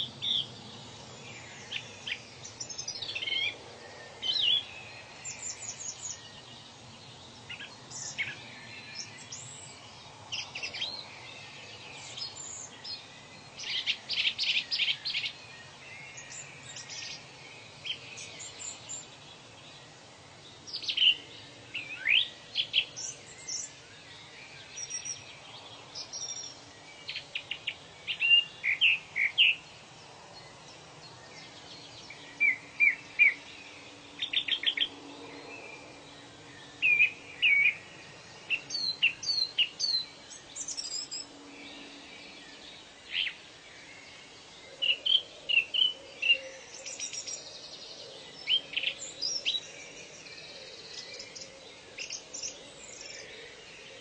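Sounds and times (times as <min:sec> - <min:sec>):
birds chirping and singing: 0:00.0 - 0:54.0
faint background noise: 0:00.0 - 0:54.0.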